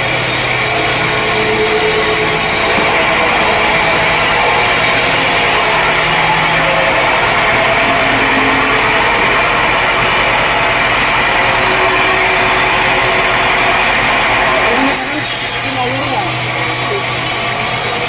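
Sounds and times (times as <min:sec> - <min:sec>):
sawmill machinery droning: 0:00.0 - 0:18.0.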